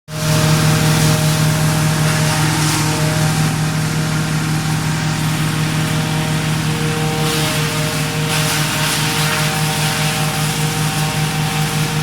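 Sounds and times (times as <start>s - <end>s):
wood chipper engine running: 0.1s - 12.0s.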